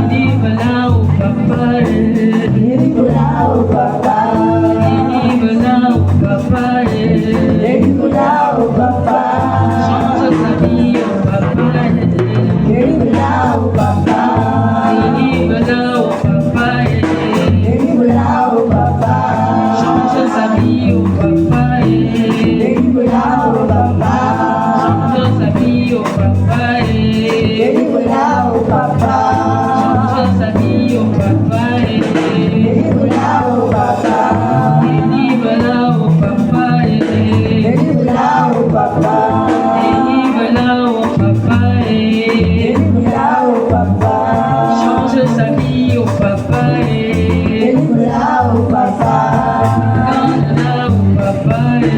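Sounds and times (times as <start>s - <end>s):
bass accompaniment: 0.0s - 51.9s
voices singing: 0.0s - 51.9s.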